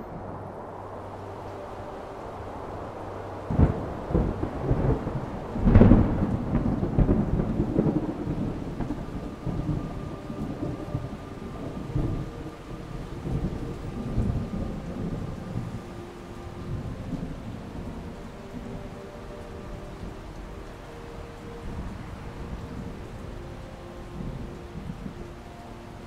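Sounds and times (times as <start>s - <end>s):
thunder cracks and rumble: 0.0s - 25.4s
steady rain hiss: 0.0s - 26.0s.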